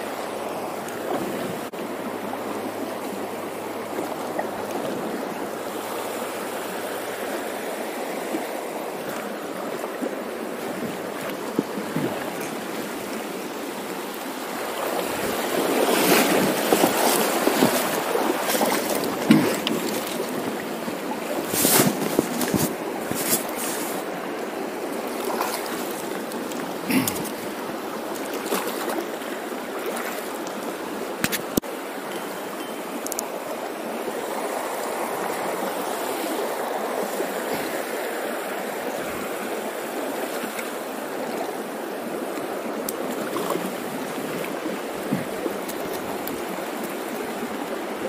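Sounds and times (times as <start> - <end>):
river water rushing over stones: 0.0 - 48.0.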